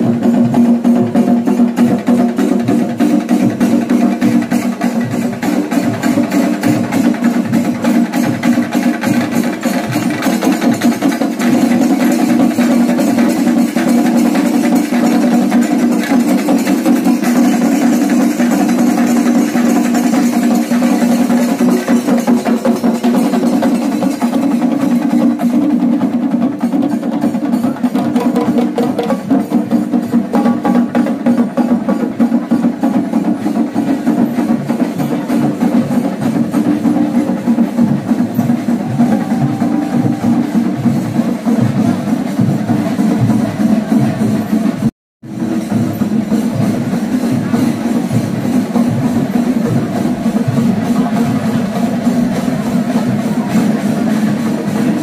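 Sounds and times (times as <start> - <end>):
fast loud drumming: 0.0 - 55.0.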